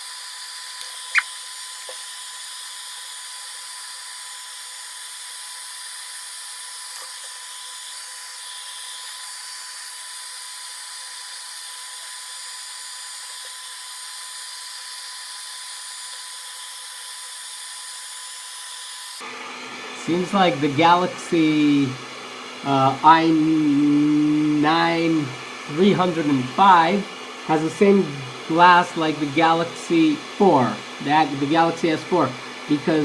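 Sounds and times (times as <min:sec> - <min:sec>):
hair dryer blowing: 0:00.0 - 0:33.0.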